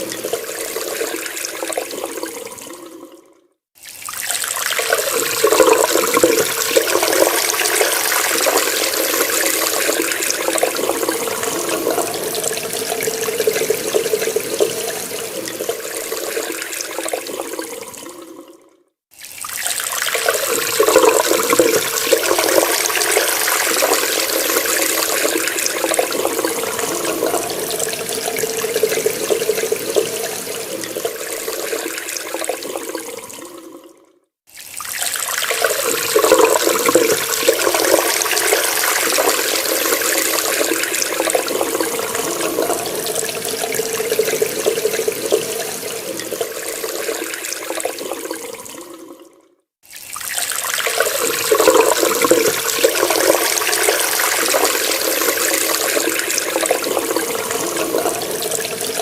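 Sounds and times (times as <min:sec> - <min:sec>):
tap water running into sink: 0:03.8 - 0:18.3, 0:19.2 - 0:33.9, 0:34.5 - 0:49.2, 0:49.9 - 0:59.0.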